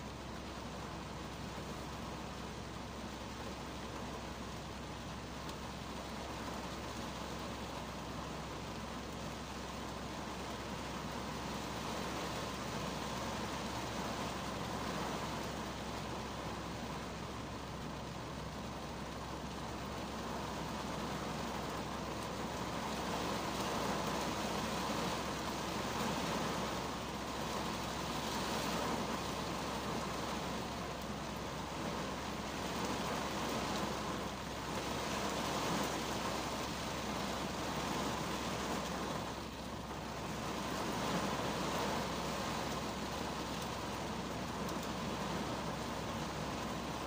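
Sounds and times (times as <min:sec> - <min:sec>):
rain on car roof from inside: 0:00.0 - 0:47.0.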